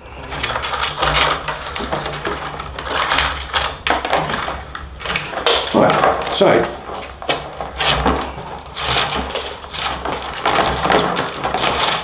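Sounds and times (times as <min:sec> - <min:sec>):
rawhide lacing scraping on drum: 0:00.0 - 0:12.0.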